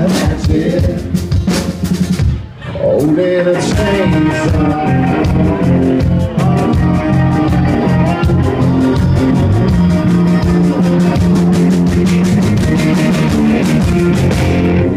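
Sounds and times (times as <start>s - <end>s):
steady drum beat: 0.0s - 14.9s
electric guitars: 2.3s - 14.9s.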